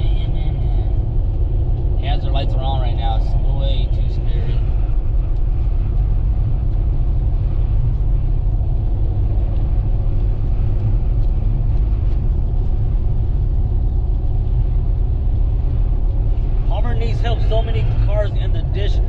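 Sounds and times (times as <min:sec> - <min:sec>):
vehicle engine rumble: 0:00.0 - 0:19.0
wind noise: 0:00.0 - 0:19.0.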